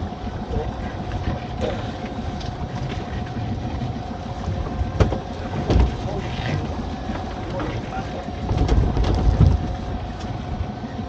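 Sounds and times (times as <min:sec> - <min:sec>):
boat engine and hauling gear whine: 0:00.0 - 0:11.0.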